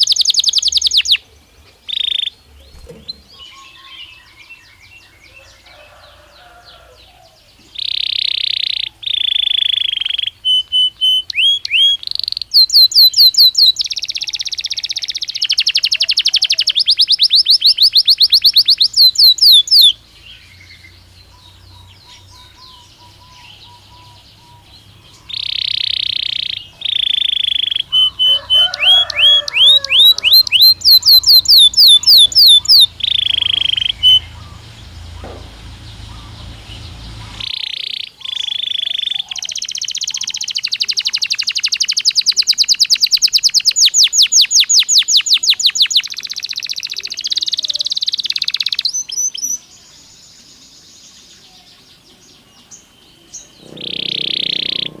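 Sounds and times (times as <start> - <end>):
soft chirping: 0.0 - 4.4, 7.5 - 49.6, 52.4 - 55.0
canary singing trills: 0.0 - 55.0.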